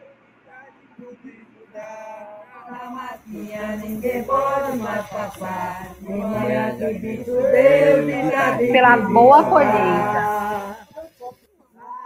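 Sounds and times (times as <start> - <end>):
voices singing chant-like song: 0.6 - 12.0.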